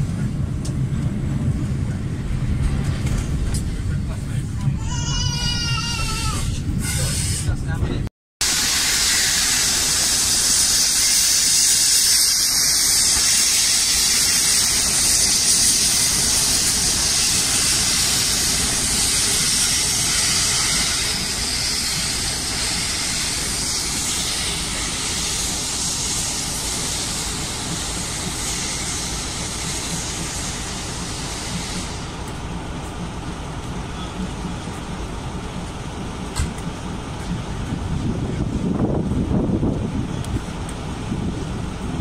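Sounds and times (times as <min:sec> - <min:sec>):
steam locomotive hissing steam: 0:05.8 - 0:07.8, 0:08.4 - 0:42.0.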